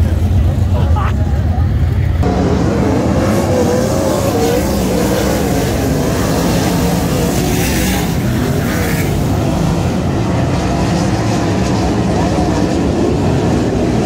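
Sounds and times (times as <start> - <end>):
race car engines roaring: 0.0 - 14.0.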